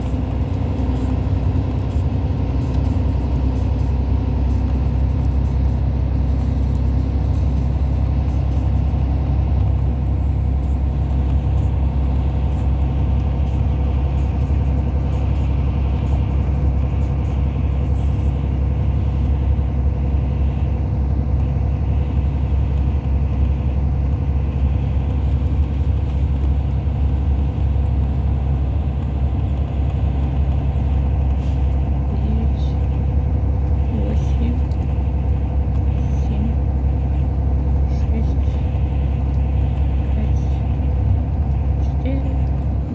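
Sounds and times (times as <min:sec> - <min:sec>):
coach engine and road rumble: 0:00.0 - 0:42.9.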